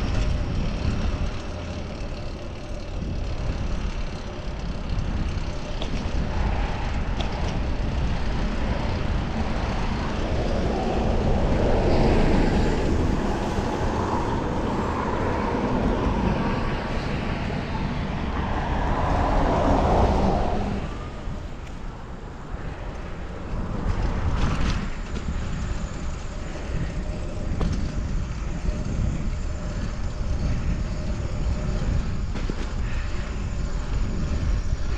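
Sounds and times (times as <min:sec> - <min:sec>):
city road traffic: 0:00.0 - 0:34.9
vehicle passing: 0:00.0 - 0:34.9
wind rumble on microphone: 0:00.0 - 0:34.9.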